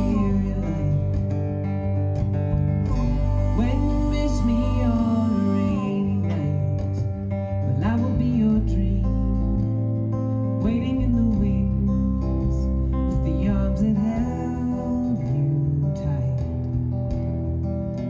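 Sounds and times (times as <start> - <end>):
man singing: 0.0 - 1.5, 2.8 - 9.8, 10.5 - 16.7
live band with acoustic guitar: 0.0 - 18.0.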